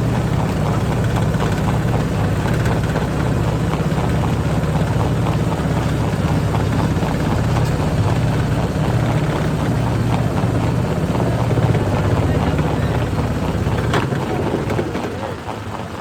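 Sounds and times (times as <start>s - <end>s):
heavy machine engine pulsing: 0.0s - 16.0s.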